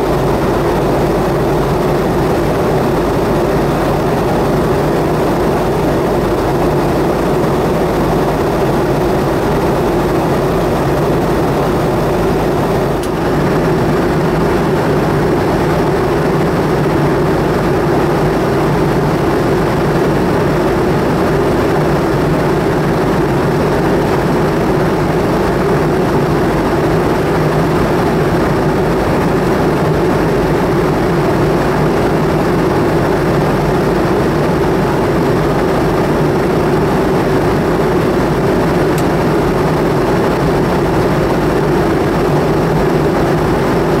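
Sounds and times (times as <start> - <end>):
airliner engine drone in cabin: 0.0 - 44.0.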